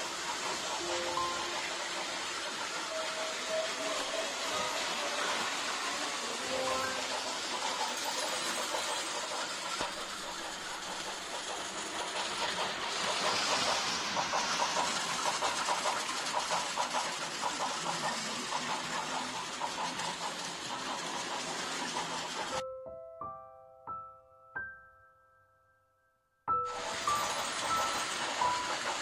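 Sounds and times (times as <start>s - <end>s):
toy train motor whirring: 0.0s - 22.6s, 26.7s - 29.0s
wheels clicking on track: 0.0s - 22.6s, 26.7s - 29.0s.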